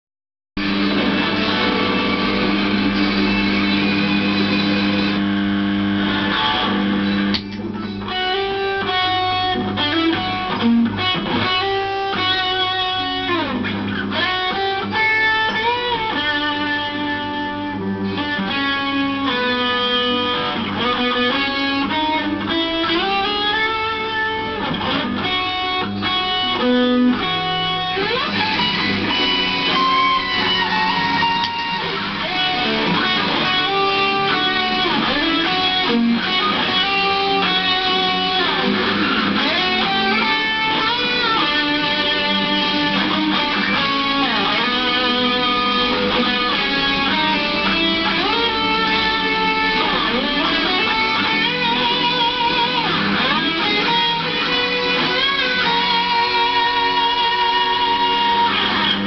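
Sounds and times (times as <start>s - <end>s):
electric guitar music: 0.6s - 59.0s.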